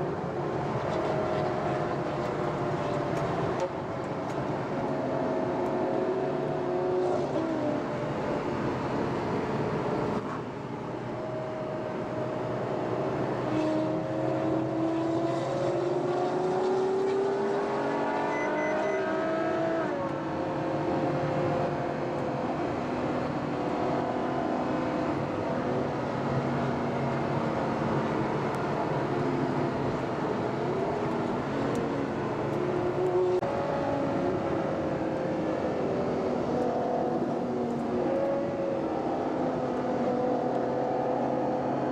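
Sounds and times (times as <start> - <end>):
car engine while driving: 0.0 - 41.9.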